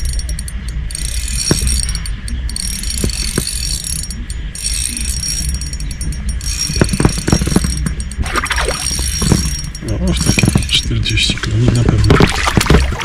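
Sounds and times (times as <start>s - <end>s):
fishing reel ratcheting: 0.0s - 13.0s.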